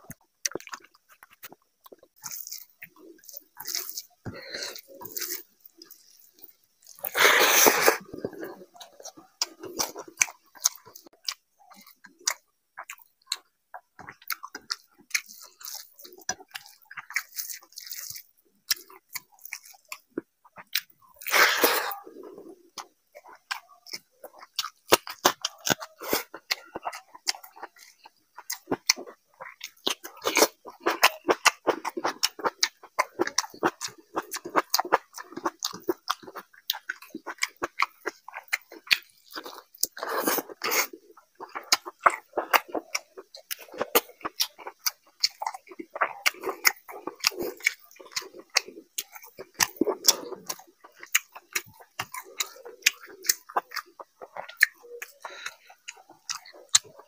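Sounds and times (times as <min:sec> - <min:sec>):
chewing and lip smacking: 0:00.0 - 0:57.0.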